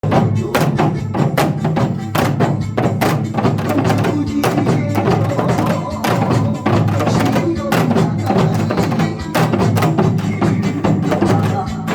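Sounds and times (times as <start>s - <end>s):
sharp percussive hits: 0.0s - 11.9s.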